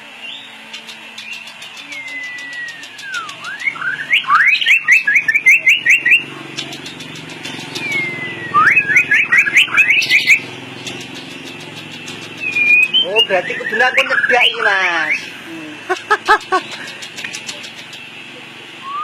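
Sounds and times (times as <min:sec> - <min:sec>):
songbird whistling: 0:00.2 - 0:15.3, 0:18.8 - 0:19.0.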